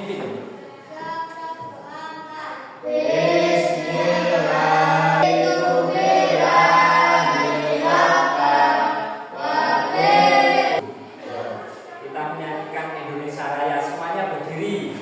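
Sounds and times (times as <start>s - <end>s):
children praying in unison: 0.4s - 14.6s.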